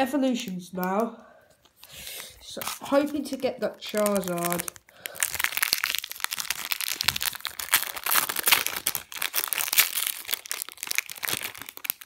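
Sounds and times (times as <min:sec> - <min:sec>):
foil wrapper crinkling: 0:02.2 - 0:12.0.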